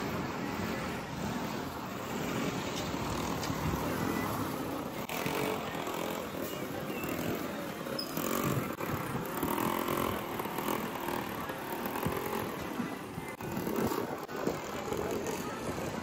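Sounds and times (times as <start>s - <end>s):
motorcycle passing: 0.0s - 16.0s.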